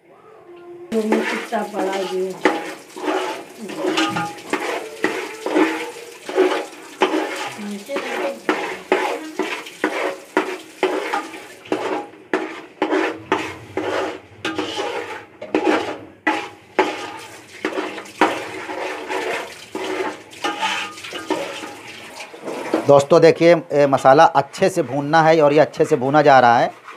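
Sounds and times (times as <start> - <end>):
metal spatula scraping metal pot: 0.9 - 23.5, 24.6 - 26.9.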